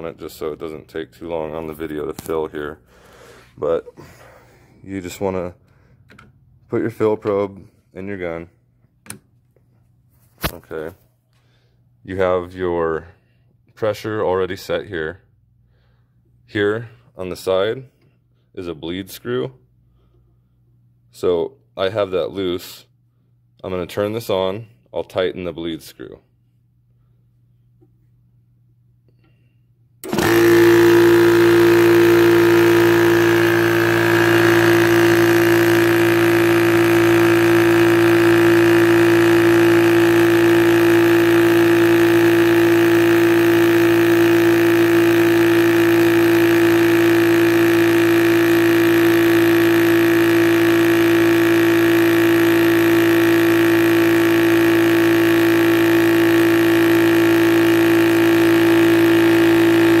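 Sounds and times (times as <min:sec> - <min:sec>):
air compressor running with hum: 0:00.0 - 0:14.0, 0:14.6 - 0:22.0, 0:26.2 - 1:00.0.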